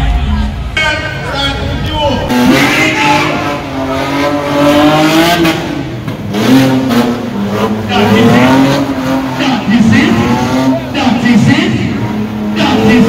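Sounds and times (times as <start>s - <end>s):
car engine revving hard: 2.2s - 13.0s.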